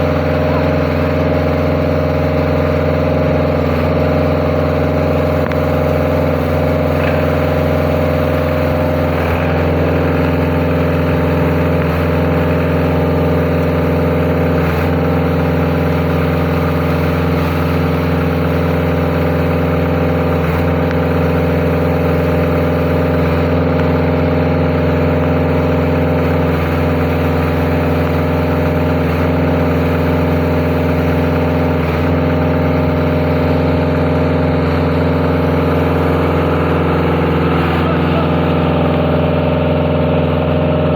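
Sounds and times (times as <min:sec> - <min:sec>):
pumping machine engine running: 0:00.0 - 0:40.9.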